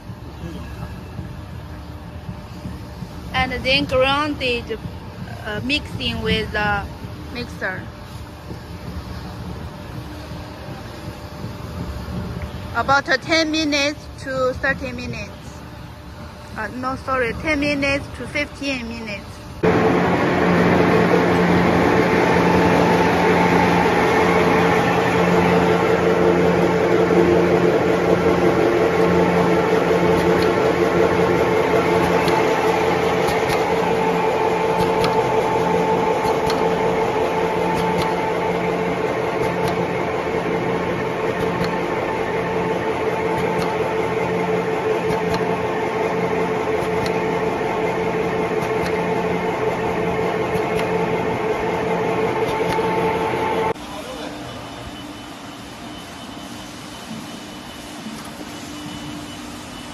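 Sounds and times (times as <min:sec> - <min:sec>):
machine motor humming: 0:00.0 - 0:54.8.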